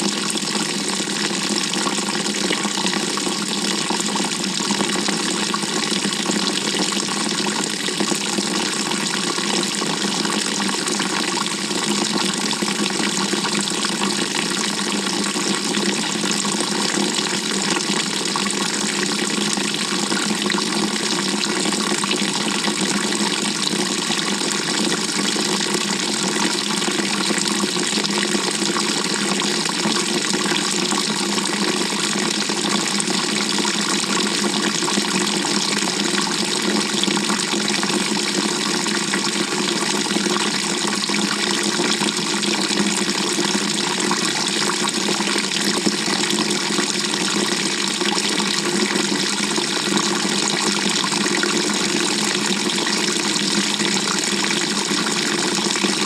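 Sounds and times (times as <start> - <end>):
water rushing in washing machine: 0.0 - 56.0.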